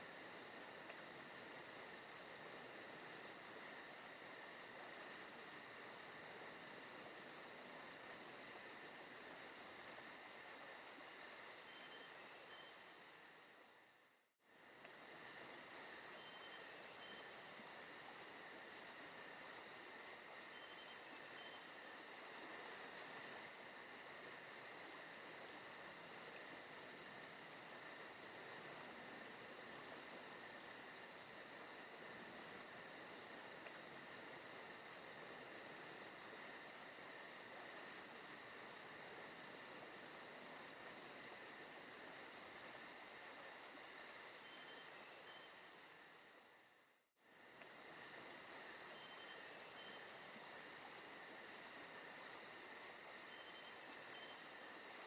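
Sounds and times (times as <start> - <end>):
crickets and insects chirring: 0.0 - 55.0.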